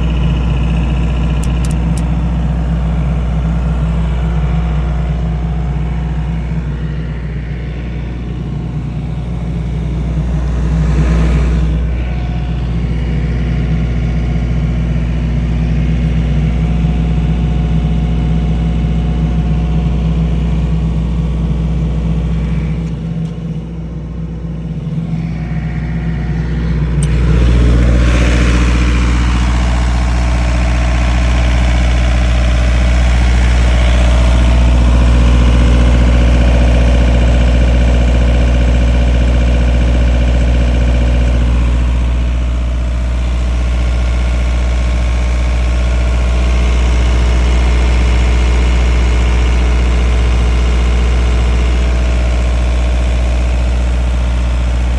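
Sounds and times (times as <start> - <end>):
diesel generator running: 0.0 - 54.9.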